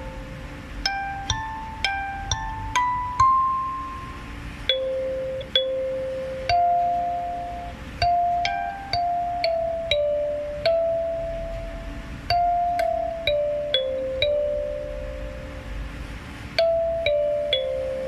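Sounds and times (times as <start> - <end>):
kalimba melody: 0.0 - 15.9, 16.6 - 18.0.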